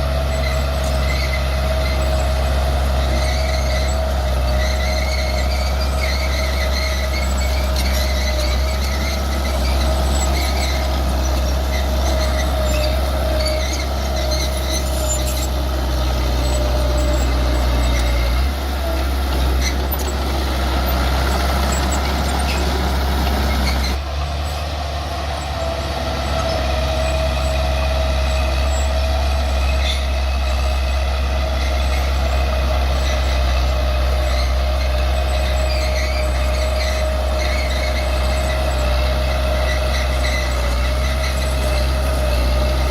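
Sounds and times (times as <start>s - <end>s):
bulldozer diesel engine running: 0.0s - 42.9s
high squeal: 0.2s - 31.0s, 32.8s - 42.9s.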